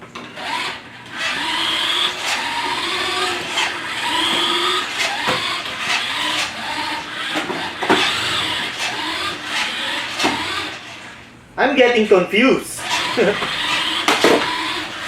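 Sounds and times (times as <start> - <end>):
toy car electric motor whining: 0.2 - 11.2, 12.8 - 15.0
wheel scrub: 0.3 - 11.2, 12.8 - 15.0.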